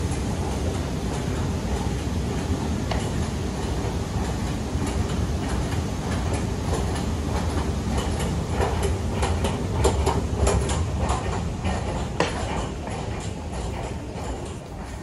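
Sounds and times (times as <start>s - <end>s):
escalator machinery rumbling: 0.0s - 15.0s.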